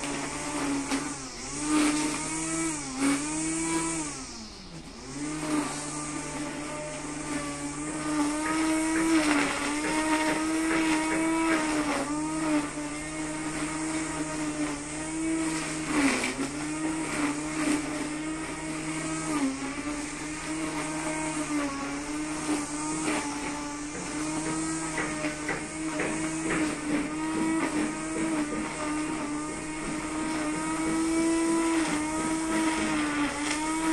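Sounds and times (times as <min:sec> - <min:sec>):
brush cutter motor cutting grass: 0:00.0 - 0:33.9.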